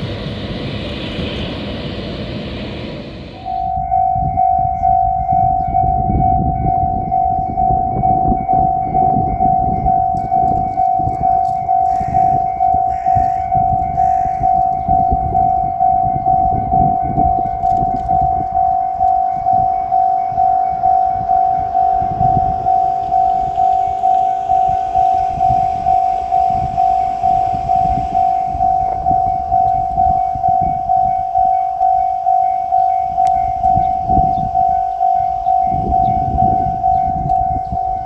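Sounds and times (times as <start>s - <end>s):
low rumble: 0.0s - 38.0s
railroad crossing bell: 0.0s - 38.0s.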